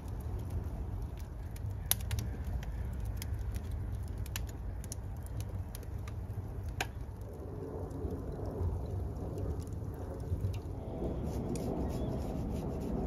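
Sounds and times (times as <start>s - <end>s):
fire low rumble: 0.0s - 13.0s
wood fire crackling and popping: 0.0s - 13.0s.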